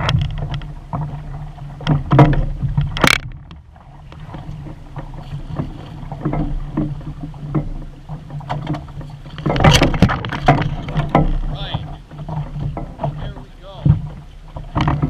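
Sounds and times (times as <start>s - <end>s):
water splashing against hull: 0.0s - 15.0s.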